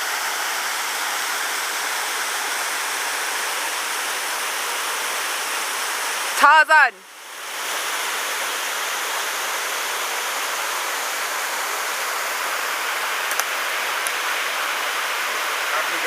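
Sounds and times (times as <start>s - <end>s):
waterfall pouring into a pool: 0.0s - 16.0s.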